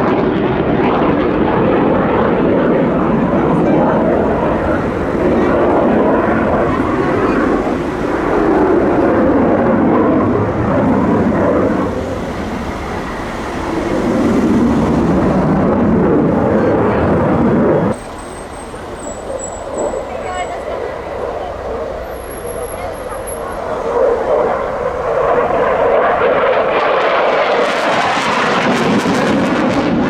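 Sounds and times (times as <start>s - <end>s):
jet fighter engine rumble: 0.0s - 30.0s.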